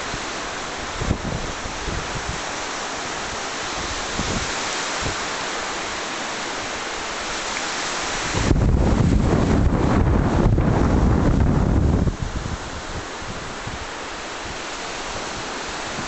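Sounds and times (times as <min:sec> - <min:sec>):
surf: 0:00.0 - 0:16.0
wind: 0:00.0 - 0:16.0.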